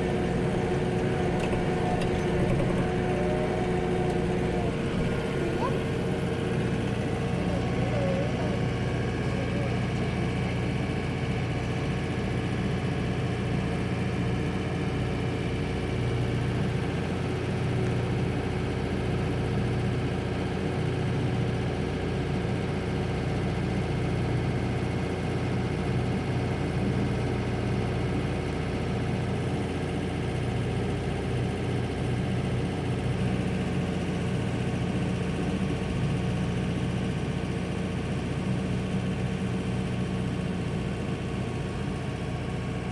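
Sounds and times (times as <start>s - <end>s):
tractor engine running steadily: 0.0s - 42.9s.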